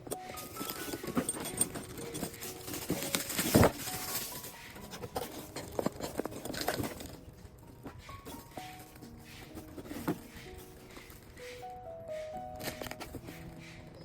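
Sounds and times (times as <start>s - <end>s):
faint background music: 0.0s - 14.0s
rustling handling noise: 0.0s - 14.0s.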